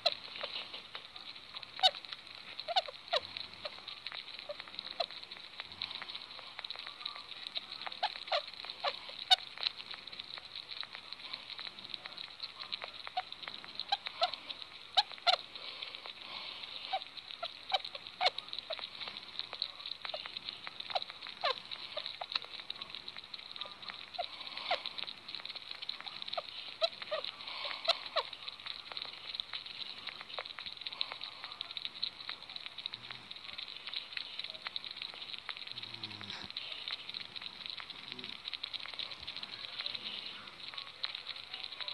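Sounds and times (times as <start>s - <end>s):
steady hiss: 0.0s - 41.9s
sugar gliders chirping: 0.0s - 41.9s.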